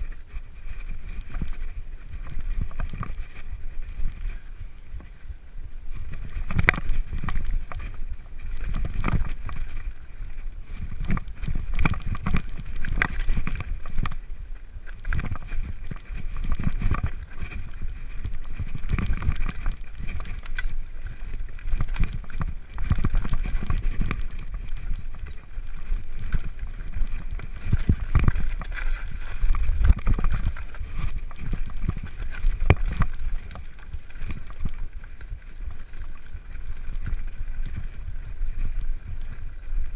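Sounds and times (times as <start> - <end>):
bike rattling over rocks: 0.0 - 39.9
wind rumble on microphone: 0.0 - 39.9.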